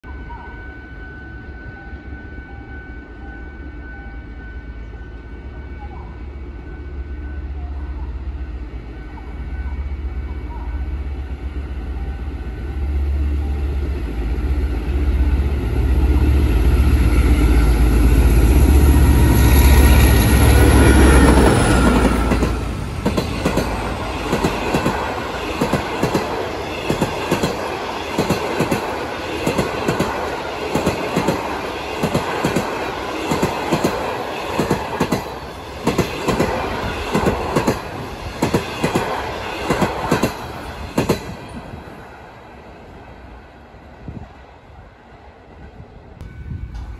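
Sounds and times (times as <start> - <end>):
diesel locomotive engine droning: 0.0 - 46.9.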